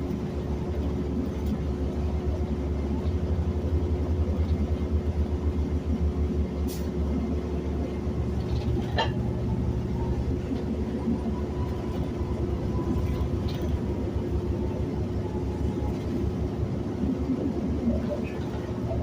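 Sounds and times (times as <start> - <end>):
bus engine and road rumble: 0.0 - 19.0
constant low hum: 0.0 - 19.0.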